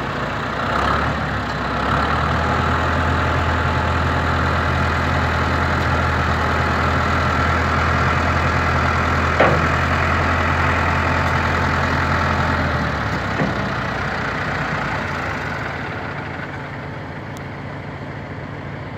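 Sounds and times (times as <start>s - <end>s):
diesel tractor engine idling: 0.0s - 18.9s.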